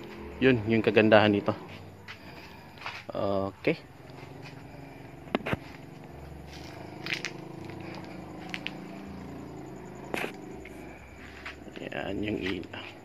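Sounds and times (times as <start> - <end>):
footsteps: 0.0 - 9.4, 10.0 - 13.0
steady low hum: 0.0 - 13.0.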